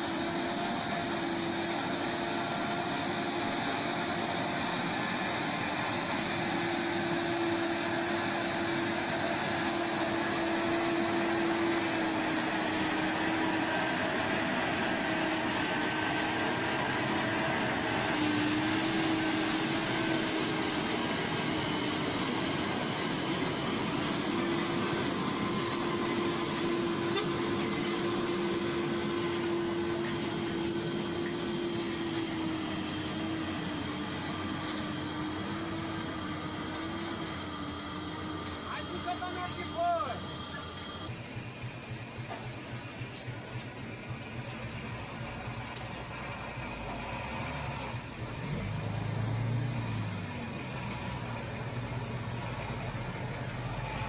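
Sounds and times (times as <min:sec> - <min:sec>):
diesel trucks droning past: 0:00.0 - 0:54.0.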